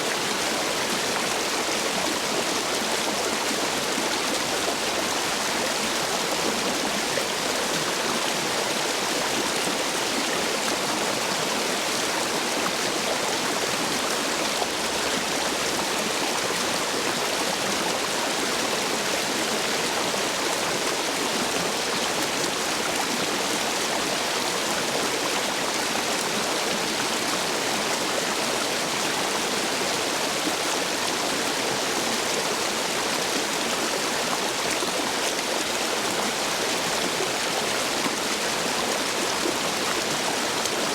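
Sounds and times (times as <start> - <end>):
stream water rushing over stones: 0.0 - 40.9.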